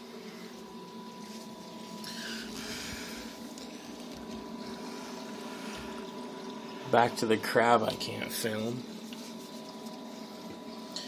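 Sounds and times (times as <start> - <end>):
aquarium pumps humming: 0.0 - 11.0.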